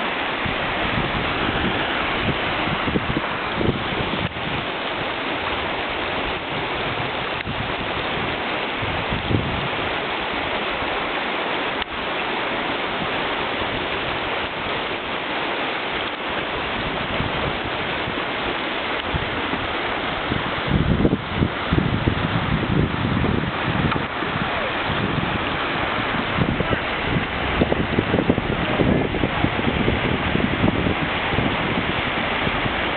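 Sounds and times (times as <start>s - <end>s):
wind buffeting microphone: 0.0s - 11.1s, 15.9s - 32.9s
fast-flowing river water: 0.0s - 32.9s.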